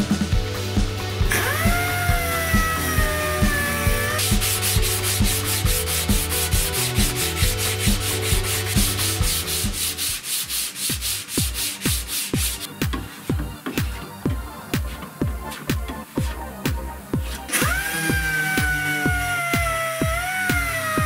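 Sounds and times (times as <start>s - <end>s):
electronic dance music: 0.0s - 21.0s.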